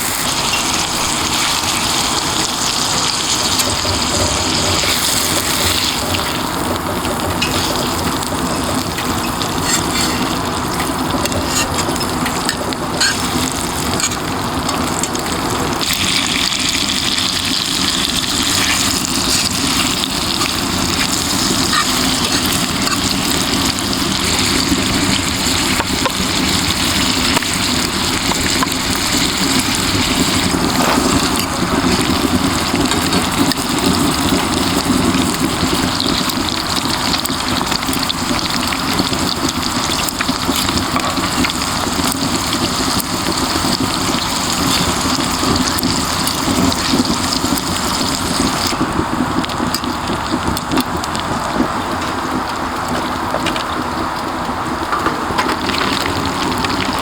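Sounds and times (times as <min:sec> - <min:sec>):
intestines sizzling in a hot pan: 0:00.0 - 0:57.0.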